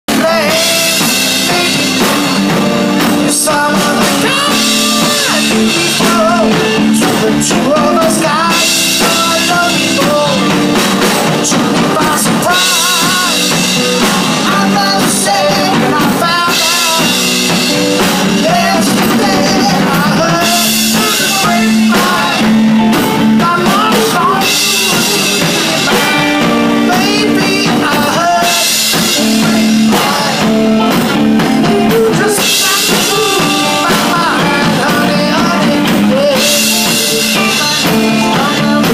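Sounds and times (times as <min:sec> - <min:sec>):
drum kit with cymbals: 0:00.1 - 0:38.9
electric guitar: 0:00.1 - 0:38.9
man singing into microphone: 0:00.1 - 0:38.9.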